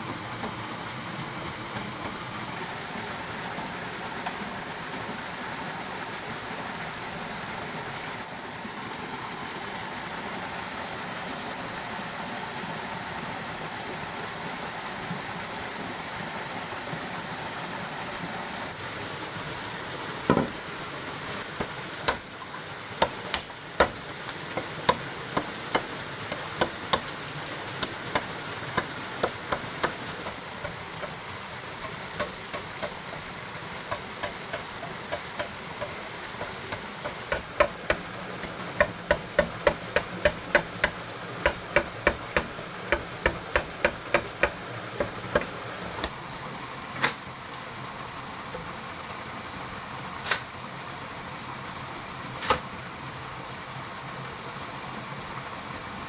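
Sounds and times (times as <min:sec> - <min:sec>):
forest stream rushing: 0:00.0 - 0:56.0.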